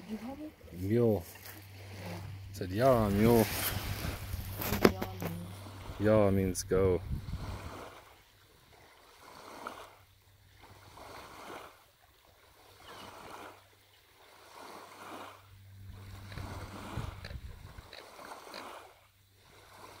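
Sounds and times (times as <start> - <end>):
paddle swishing in water: 0.0 - 20.0.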